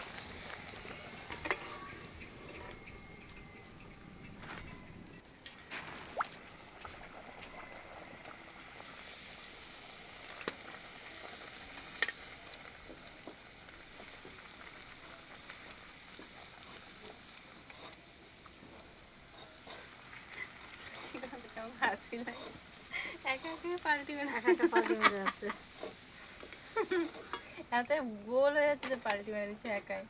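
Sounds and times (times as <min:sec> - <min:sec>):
frying in hot oil sizzle: 0:00.0 - 0:30.0.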